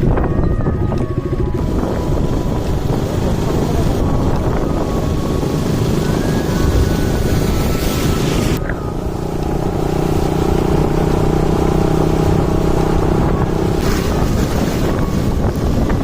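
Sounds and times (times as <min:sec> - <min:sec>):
motorcycle engine drone: 0:00.0 - 0:16.0
wind buffeting microphone: 0:00.0 - 0:16.0.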